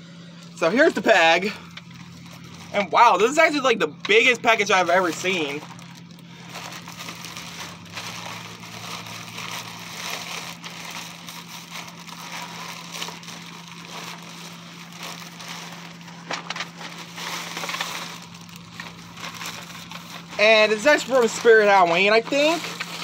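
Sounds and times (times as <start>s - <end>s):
plastic mailer bag crinkling: 0.6s - 23.0s.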